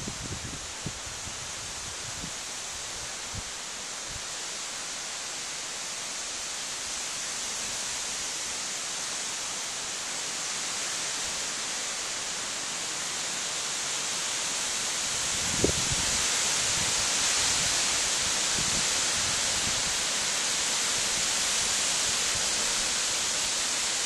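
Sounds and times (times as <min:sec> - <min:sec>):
wind through trees: 0:00.0 - 0:24.0.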